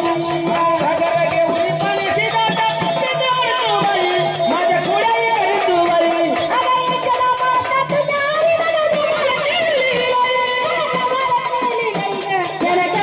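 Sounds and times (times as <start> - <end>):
steady drum beat: 0.0 - 13.0
woman singing: 0.0 - 13.0.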